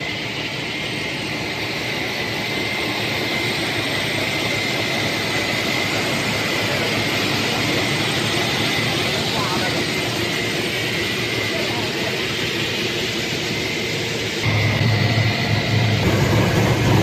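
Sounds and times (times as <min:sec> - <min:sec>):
production line machinery running: 0:00.0 - 0:17.0
thin high whine: 0:00.0 - 0:17.0.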